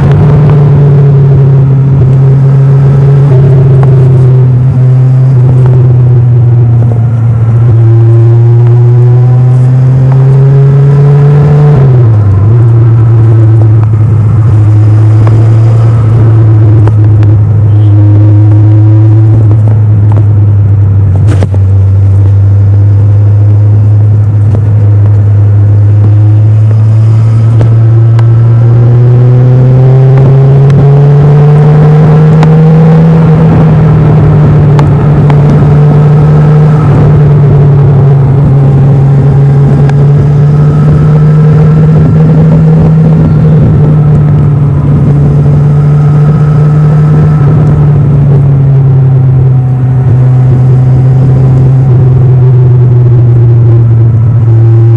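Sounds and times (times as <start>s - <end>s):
motorcycle engine riding: 0.0s - 54.9s.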